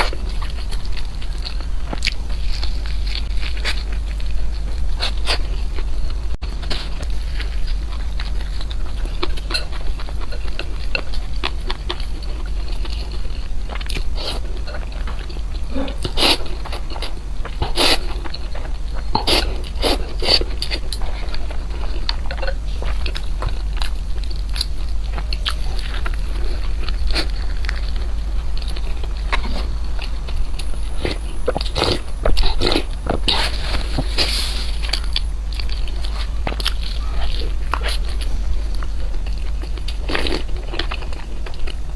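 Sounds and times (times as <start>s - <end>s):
low hum: 0.0s - 41.9s
person chewing crunchy food: 0.0s - 41.9s.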